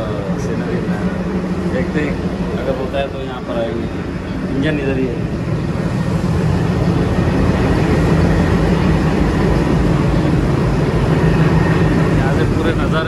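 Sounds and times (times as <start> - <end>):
diesel locomotive engine rumbling: 0.0 - 13.0
faint high whine: 0.0 - 13.0.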